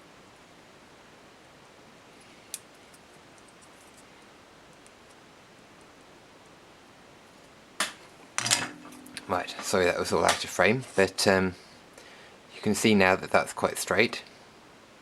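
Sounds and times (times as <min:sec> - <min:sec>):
room tone hiss: 0:00.0 - 0:15.0.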